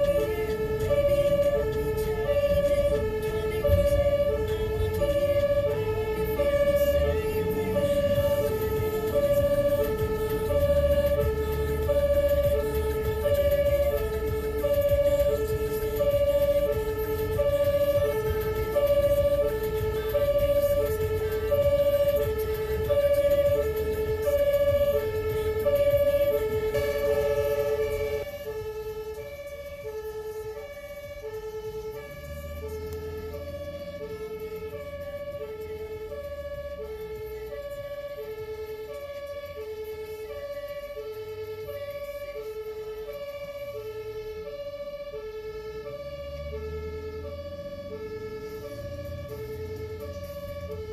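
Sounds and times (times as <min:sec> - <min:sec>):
two-tone ambulance siren: 0:00.0 - 0:50.9
vehicle rumble: 0:00.0 - 0:50.9.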